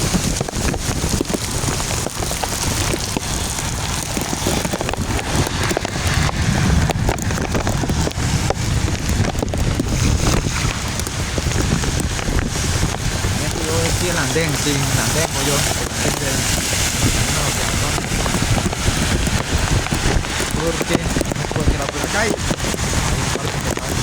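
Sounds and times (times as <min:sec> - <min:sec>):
heavy rain falling: 0:00.0 - 0:24.0
raindrops ticking: 0:00.0 - 0:24.0.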